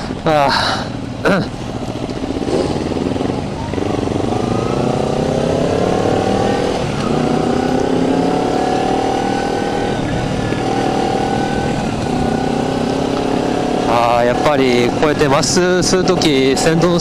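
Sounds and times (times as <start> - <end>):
motorcycle engine accelerating: 1.0 - 17.0.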